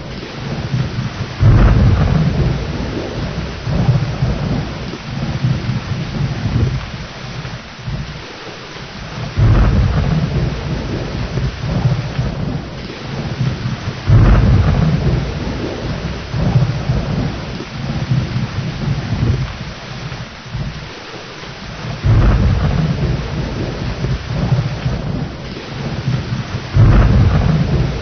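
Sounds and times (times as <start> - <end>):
heavy rain: 0.0 - 28.0
thunder rumbling: 0.0 - 28.0.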